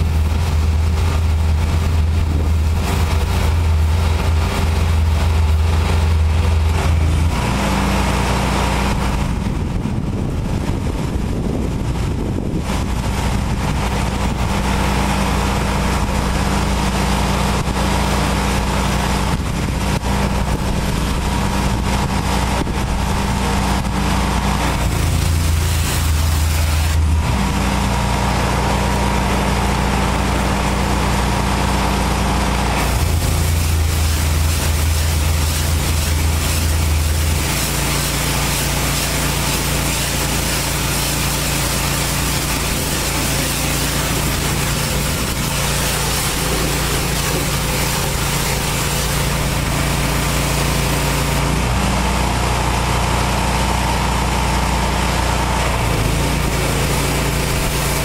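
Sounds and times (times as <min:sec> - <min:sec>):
high-pressure water spray hissing: 0:00.0 - 0:09.5, 0:10.1 - 0:58.0
pressure washer engine running: 0:00.0 - 0:58.0.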